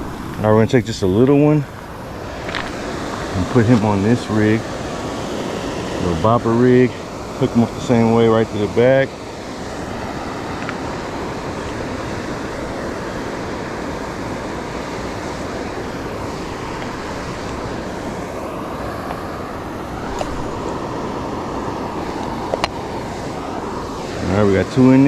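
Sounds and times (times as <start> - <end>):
waterfall roaring: 0.0 - 24.9.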